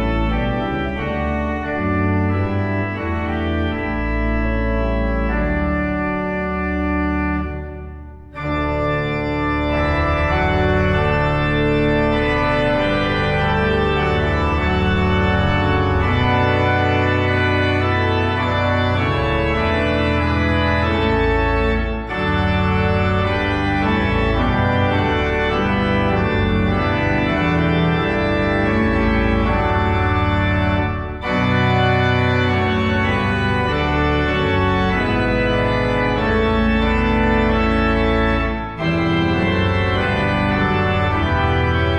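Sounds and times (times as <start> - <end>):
church organ playing a hymn: 0.0 - 41.9.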